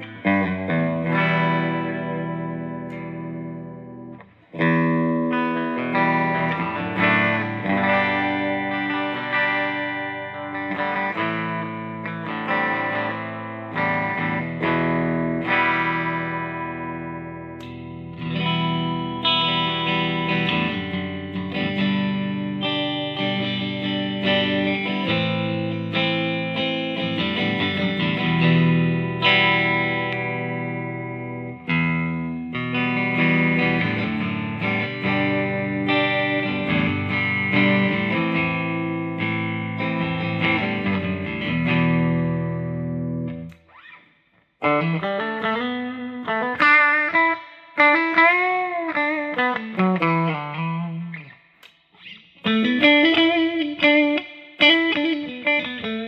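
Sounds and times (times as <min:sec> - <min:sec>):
electric guitar chords: 0:00.0 - 0:56.0.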